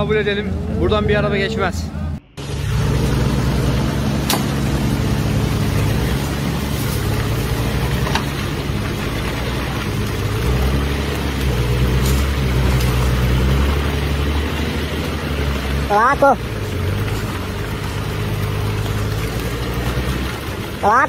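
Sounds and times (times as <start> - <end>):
pickup truck engine under load: 2.3 - 21.0.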